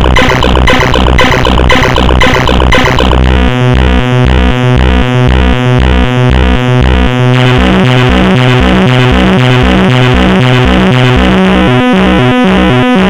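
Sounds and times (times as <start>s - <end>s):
electronic synthesizer music: 0.0s - 13.0s.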